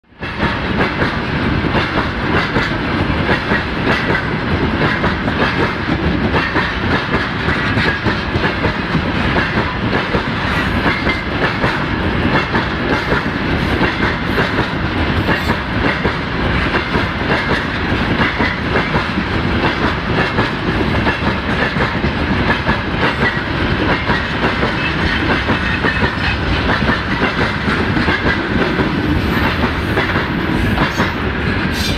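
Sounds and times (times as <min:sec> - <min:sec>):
train wheels clattering over rail joints: 0:00.2 - 0:31.9.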